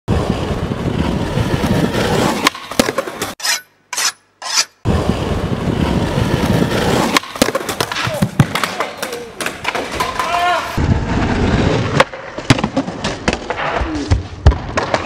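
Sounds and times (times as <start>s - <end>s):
skateboard wheels rolling on pavement: 0.1s - 3.4s, 4.8s - 15.0s.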